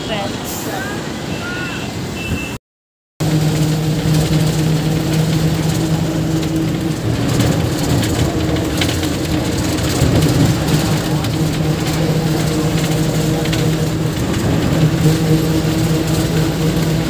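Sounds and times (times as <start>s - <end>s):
bus engine droning: 0.0s - 2.6s, 3.2s - 17.0s
light rattles: 3.2s - 17.0s
low hum: 3.2s - 17.0s.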